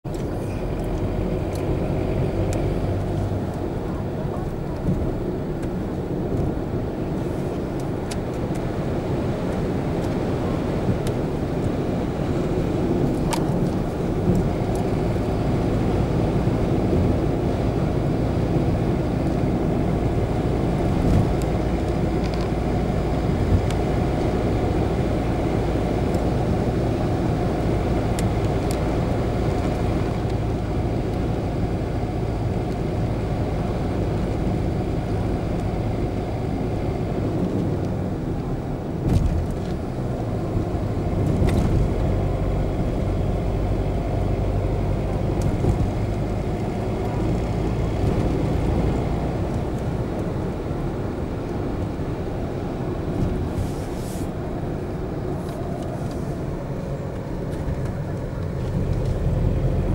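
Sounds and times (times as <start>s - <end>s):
car engine hum: 0.0s - 59.9s
road and tyre noise: 0.0s - 59.9s.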